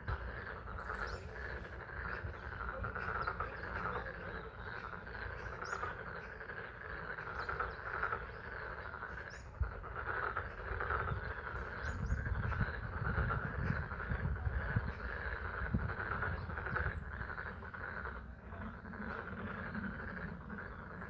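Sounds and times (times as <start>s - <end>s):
frogs trilling: 0.0s - 21.0s.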